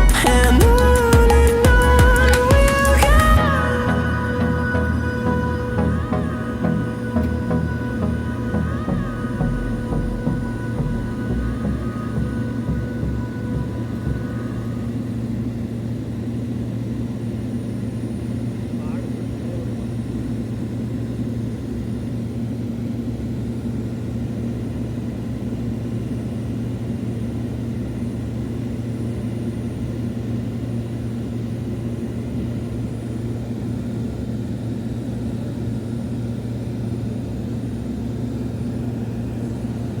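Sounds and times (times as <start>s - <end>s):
aircraft cabin engine drone: 0.0s - 40.0s.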